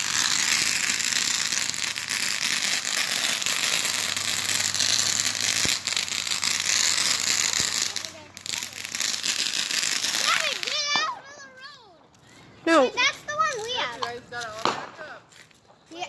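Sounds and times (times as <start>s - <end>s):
sharp firework cracks: 0.0s - 11.5s, 13.3s - 15.2s
fireworks crackling and fizzing: 0.0s - 16.0s.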